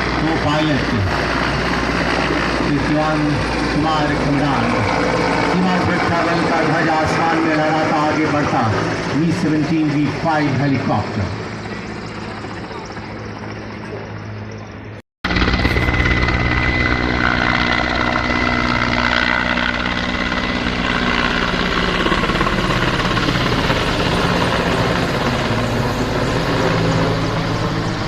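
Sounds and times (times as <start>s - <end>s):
helicopter rotor beat: 0.0s - 28.0s
turbine whine: 0.0s - 28.0s.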